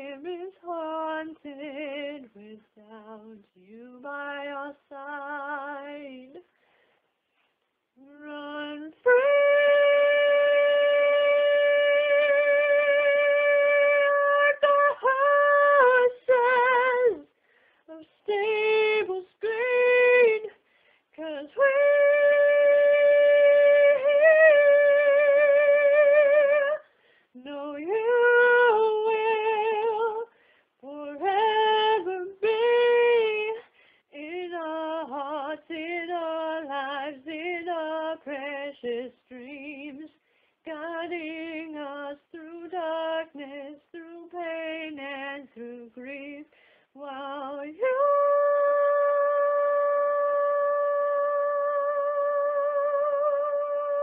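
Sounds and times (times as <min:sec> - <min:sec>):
woman singing unaccompanied: 0:00.0 - 0:06.5, 0:08.0 - 0:54.0.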